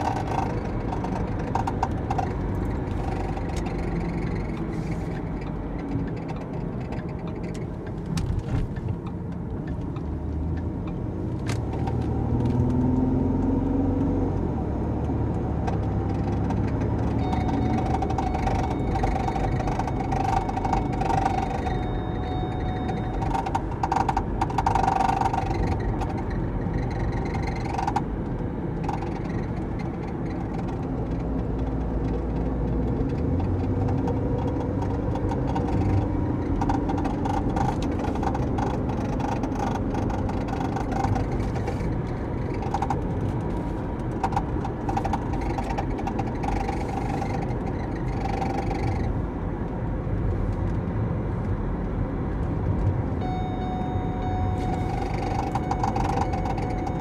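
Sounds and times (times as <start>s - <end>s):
dashboard rattle clicking and buzzing: 0.0s - 13.6s, 15.3s - 57.0s
road and engine noise: 0.0s - 57.0s.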